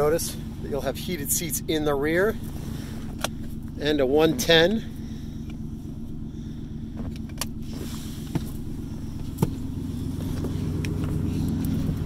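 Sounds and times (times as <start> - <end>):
engine idling hum: 0.0 - 12.0.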